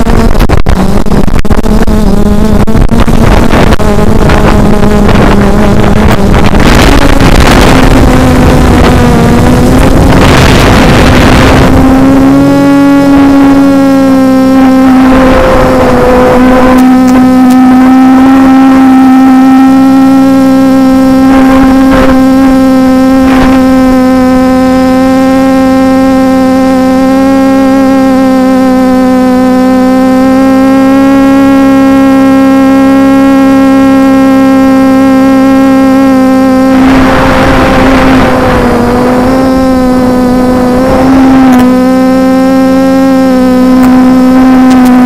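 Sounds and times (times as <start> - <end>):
drone propellers humming: 0.0 - 45.0
rough rushing noise: 0.0 - 45.0.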